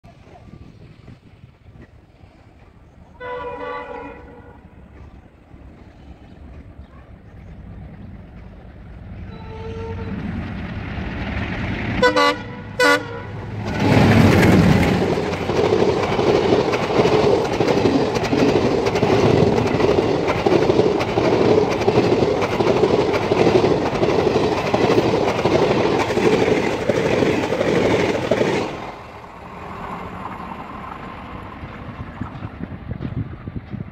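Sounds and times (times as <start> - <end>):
train wheels rumbling: 0.0 - 33.9.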